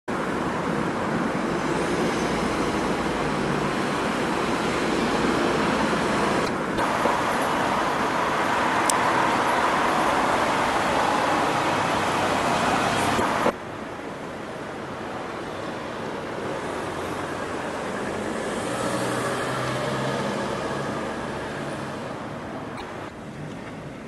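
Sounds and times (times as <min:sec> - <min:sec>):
passing cars: 0:00.1 - 0:24.0.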